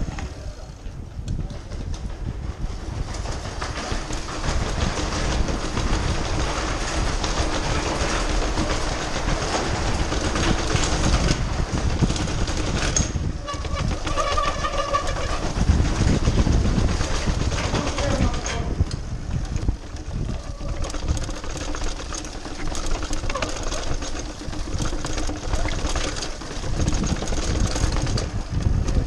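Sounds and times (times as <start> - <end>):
bike rattling over paving: 0.0 - 29.0
tyre and wind noise: 0.0 - 29.0.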